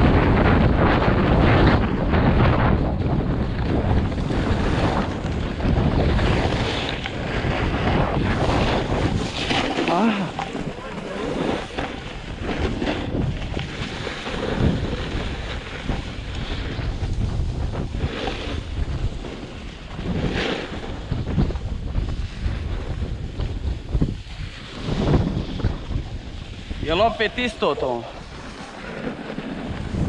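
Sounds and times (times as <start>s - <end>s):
snowboard scraping over snow: 0.0s - 30.0s
wind buffeting microphone: 0.0s - 30.0s.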